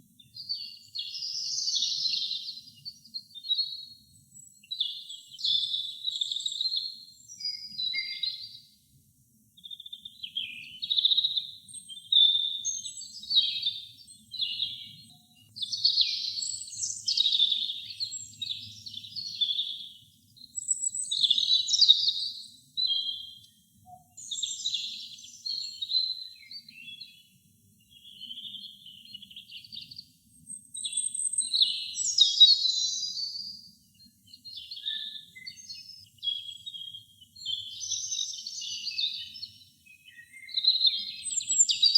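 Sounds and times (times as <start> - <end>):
robin singing: 0.2 - 8.8, 9.6 - 41.9.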